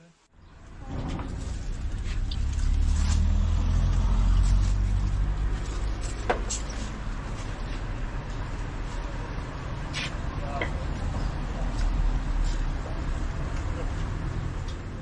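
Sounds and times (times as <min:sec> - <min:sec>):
vehicle engine running: 0:00.5 - 0:15.0.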